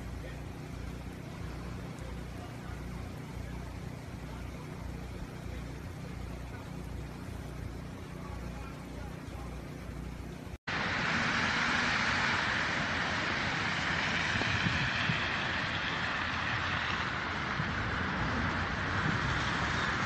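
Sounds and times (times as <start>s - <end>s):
cars on slushy road: 0.0s - 20.0s
low steady hum: 0.0s - 20.0s.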